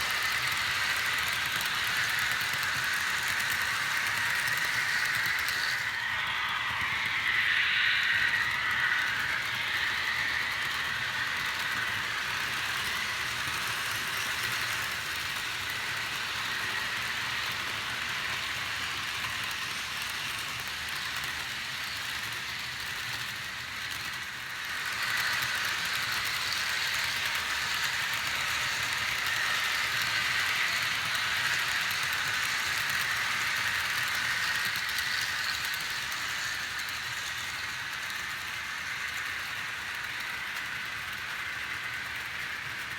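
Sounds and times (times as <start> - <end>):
model trains rattling on track: 0.0 - 42.9.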